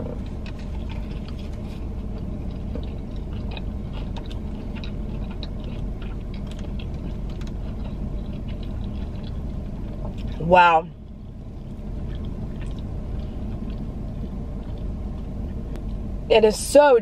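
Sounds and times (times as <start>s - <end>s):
crunchy chewing: 0.0s - 16.2s
car cabin low hum: 0.0s - 17.0s.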